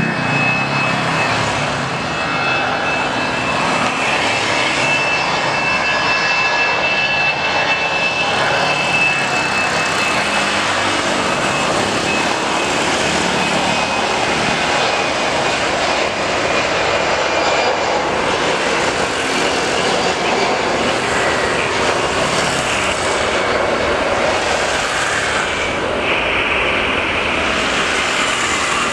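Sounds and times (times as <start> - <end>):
jet engines at takeoff thrust: 0.0 - 28.9.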